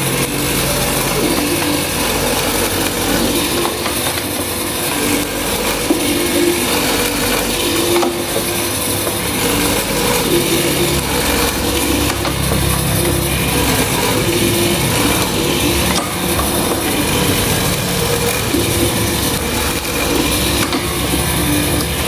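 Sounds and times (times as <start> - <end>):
machine motor hum: 0.0 - 22.0.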